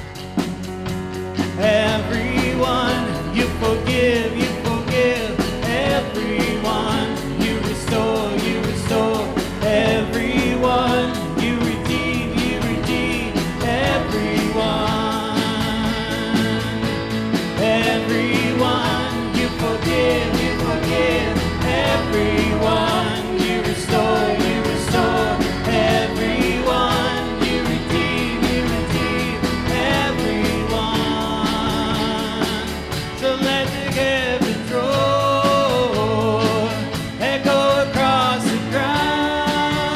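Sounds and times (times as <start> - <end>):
guitar: 0.0 - 39.9
worship band playing: 0.0 - 39.9
person singing: 1.4 - 39.9.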